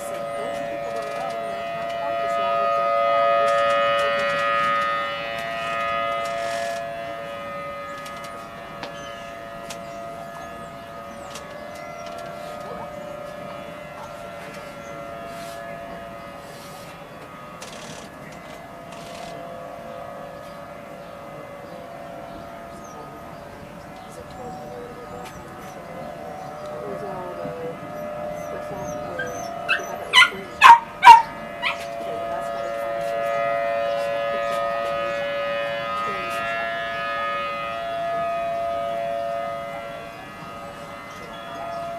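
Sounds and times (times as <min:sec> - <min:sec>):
two-note warning siren: 0:00.0 - 0:41.9.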